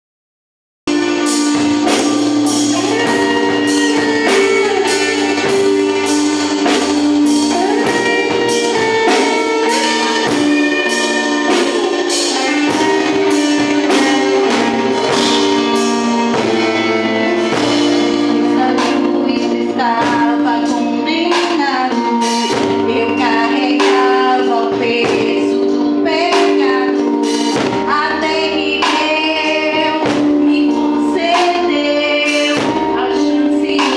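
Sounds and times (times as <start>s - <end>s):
gospel band with drum beat: 0.9s - 33.9s
woman singing: 1.8s - 33.9s.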